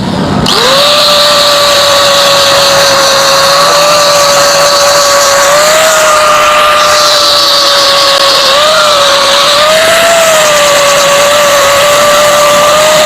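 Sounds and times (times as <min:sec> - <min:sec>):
electric grinder high whine: 0:00.0 - 0:13.0.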